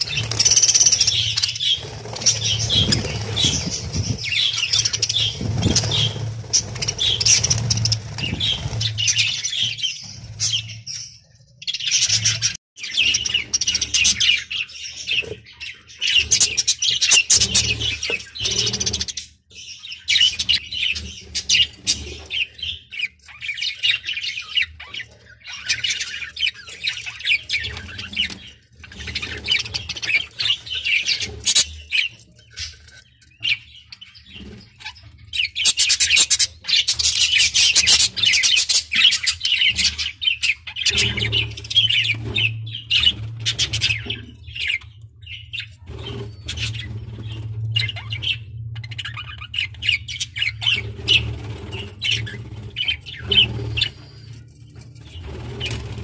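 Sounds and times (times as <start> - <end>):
budgerigars chattering: 0.0 - 10.9, 11.7 - 54.4.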